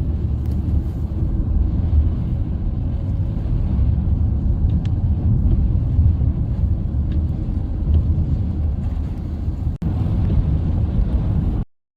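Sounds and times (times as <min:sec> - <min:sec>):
car driving low rumble: 0:00.0 - 0:11.7.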